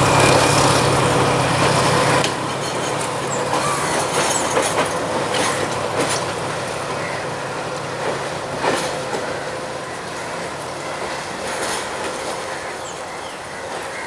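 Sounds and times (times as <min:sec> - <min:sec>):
train wheels clacking over rail joints: 0:00.0 - 0:14.0.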